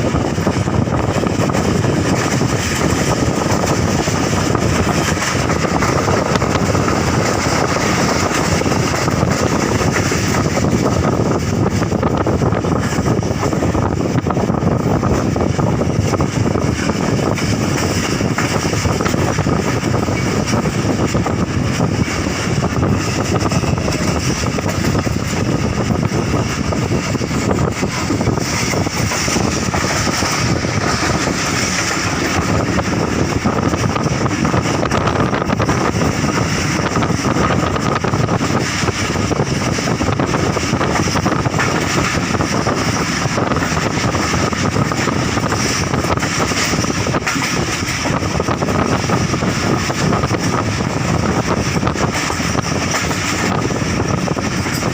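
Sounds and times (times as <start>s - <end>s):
passenger train rumbling: 0.0s - 54.9s
wind on microphone: 0.0s - 54.9s.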